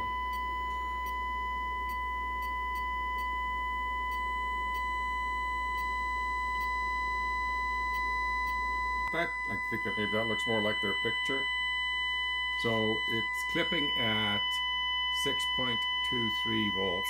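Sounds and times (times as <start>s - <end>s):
low hum: 0.0s - 17.0s
steady test tone through speaker: 0.0s - 17.0s.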